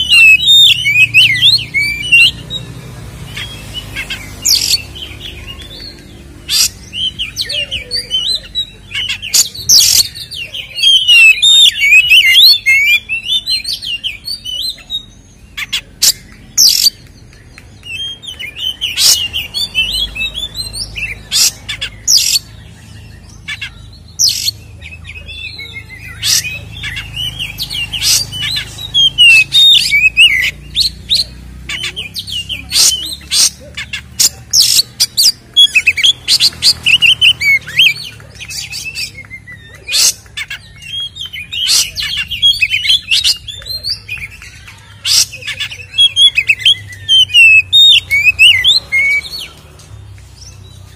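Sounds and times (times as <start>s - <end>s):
sharp piercing bird notes: 0.0s - 17.0s, 17.9s - 49.6s
bird singing whistles and warbles: 0.0s - 50.9s.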